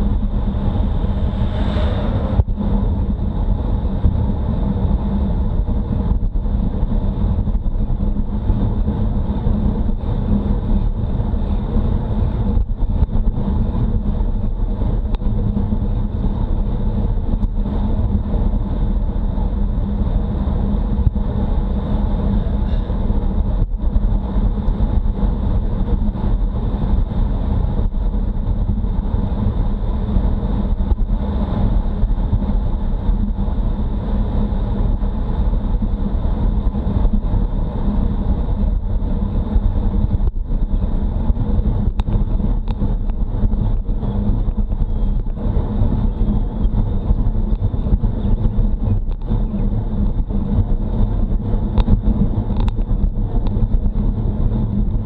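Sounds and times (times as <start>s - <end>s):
bike tyre noise on asphalt: 0.0s - 55.0s
wind buffeting microphone: 0.0s - 55.0s.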